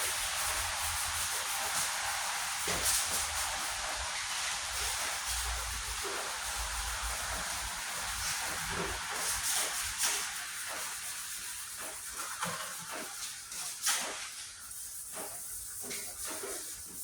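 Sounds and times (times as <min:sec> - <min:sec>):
hand sanding metal: 0:00.0 - 0:17.0.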